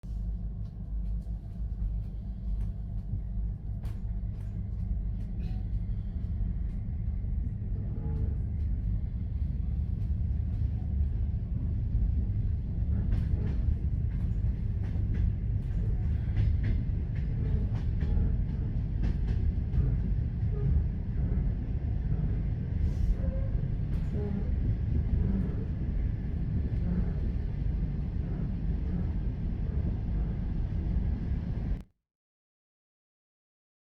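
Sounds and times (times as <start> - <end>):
train rumbling: 0.0 - 31.9.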